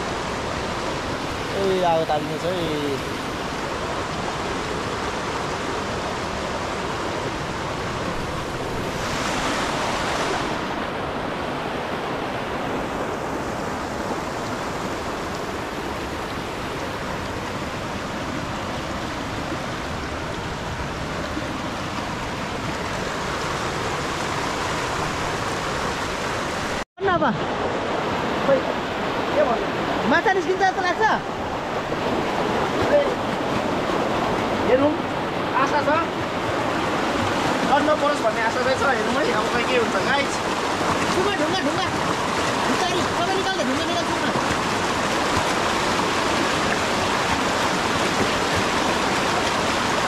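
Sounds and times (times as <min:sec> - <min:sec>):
river water rushing over rocks: 0:00.0 - 0:50.0.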